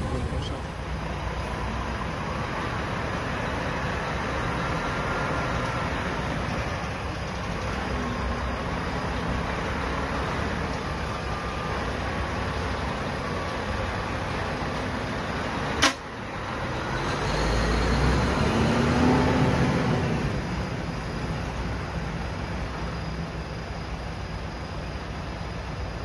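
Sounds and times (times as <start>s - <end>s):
truck diesel engines idling: 0.0s - 26.0s.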